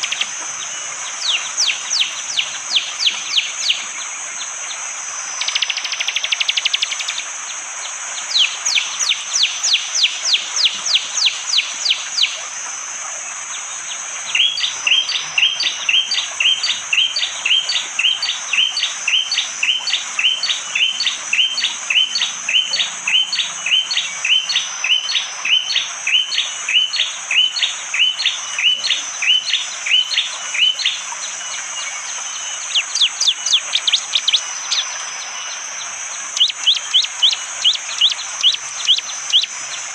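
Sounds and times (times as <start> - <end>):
steady high-pitched hiss: 0.0 - 39.9.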